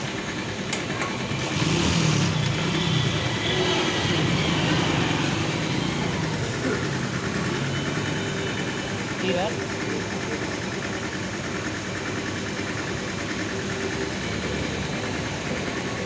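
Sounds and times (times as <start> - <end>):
engine idling: 0.0 - 16.0
fuel pump pumping: 0.0 - 16.0.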